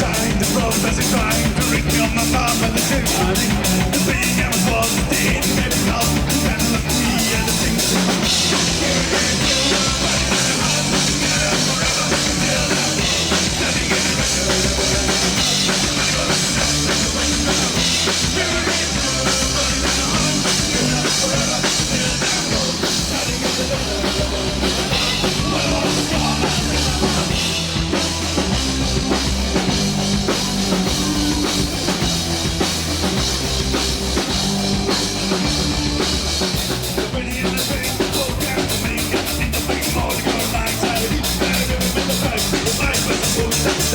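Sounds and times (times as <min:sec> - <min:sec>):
driving drum kit: 0:00.0 - 0:43.9
rock band playing: 0:00.0 - 0:43.9.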